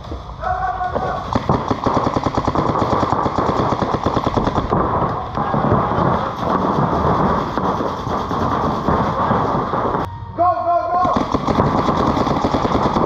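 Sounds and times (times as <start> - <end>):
paintball markers firing rapidly: 1.0 - 10.0, 11.0 - 13.0.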